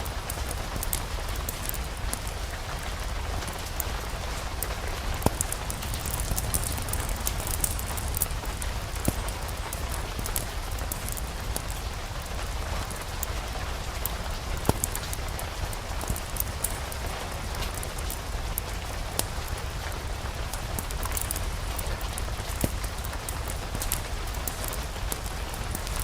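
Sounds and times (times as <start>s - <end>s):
fireplace fire crackling: 0.0s - 26.0s
steady rain: 0.0s - 26.0s.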